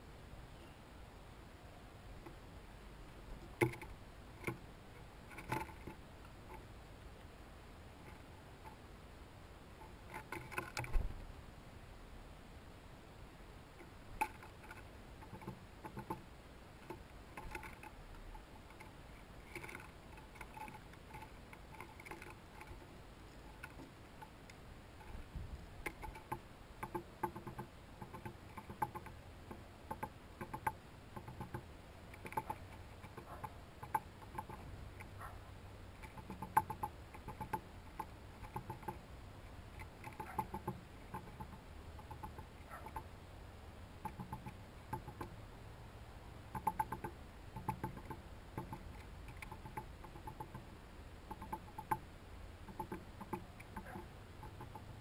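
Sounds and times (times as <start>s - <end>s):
bird pecking on wooden feeder: 2.2s - 2.4s, 3.1s - 6.8s, 8.0s - 8.9s, 9.7s - 11.2s, 13.7s - 43.1s, 44.0s - 45.4s, 46.4s - 55.0s.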